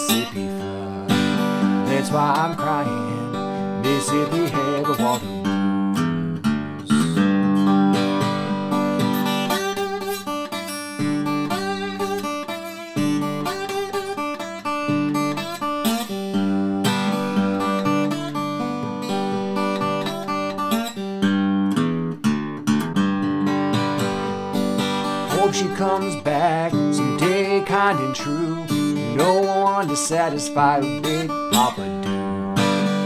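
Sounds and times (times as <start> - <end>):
slide acoustic guitar fingerstyle: 0.0 - 33.0.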